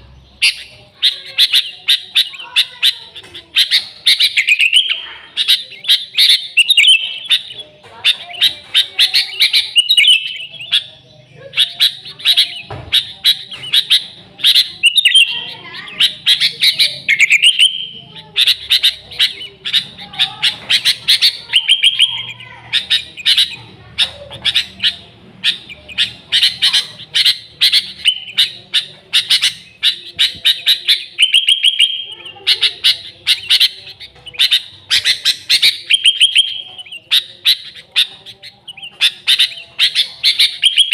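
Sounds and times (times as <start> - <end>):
bulbul chirping song: 0.0 - 40.9.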